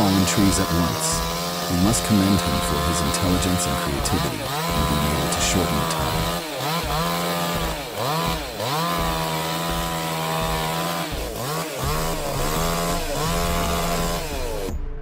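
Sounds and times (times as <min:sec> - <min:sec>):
chainsaw engine revving: 0:00.0 - 0:14.9.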